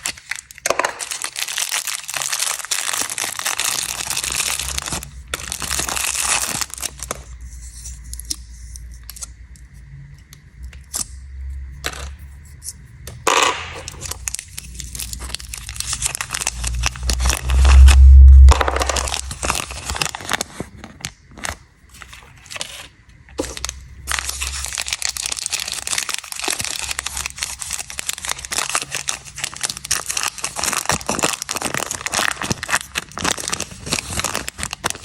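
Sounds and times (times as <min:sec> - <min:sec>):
snack packaging crinkling: 0:00.0 - 0:09.3, 0:13.3 - 0:35.0.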